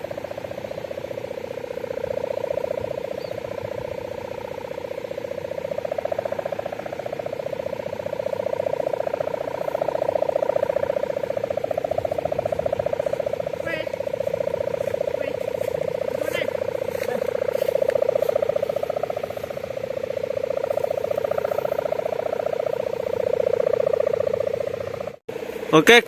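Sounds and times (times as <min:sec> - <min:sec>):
kite hummer droning: 0:00.0 - 0:26.0.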